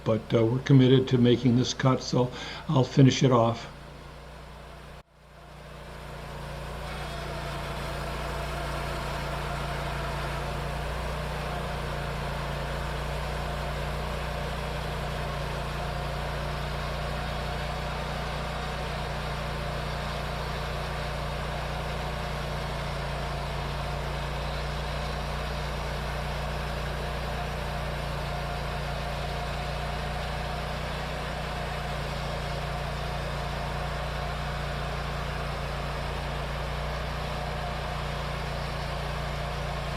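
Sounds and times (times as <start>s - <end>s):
band sawmill humming: 0.0s - 39.9s.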